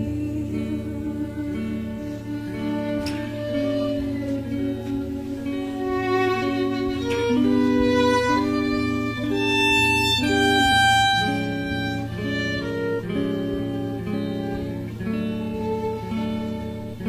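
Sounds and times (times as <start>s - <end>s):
low musical accompaniment: 0.0s - 17.0s
violin melody: 0.0s - 17.0s.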